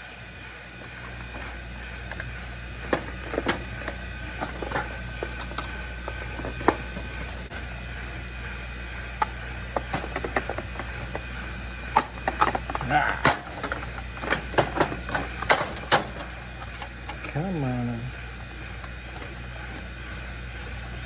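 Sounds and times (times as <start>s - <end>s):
steady low hum: 0.0s - 21.0s
small clicks and knocks of parts: 0.8s - 7.4s, 9.2s - 19.9s.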